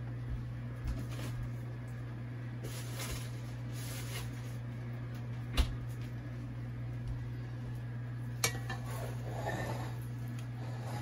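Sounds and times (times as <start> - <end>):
kitchen hum: 0.0 - 11.0.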